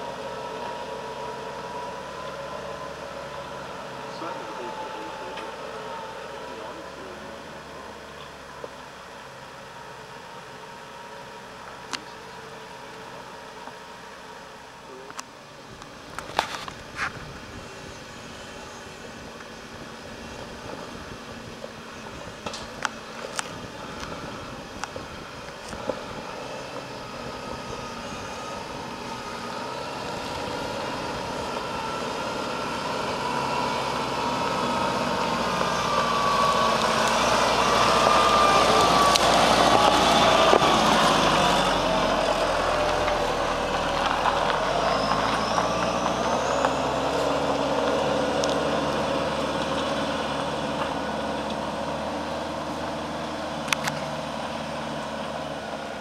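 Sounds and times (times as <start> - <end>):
tyres on rocky dirt track: 0.0 - 56.0
vehicle engine: 0.0 - 56.0.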